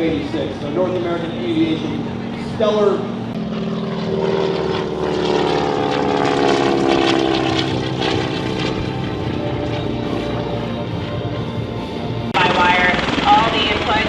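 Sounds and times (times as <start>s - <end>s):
aircraft engine drone: 0.0s - 14.0s.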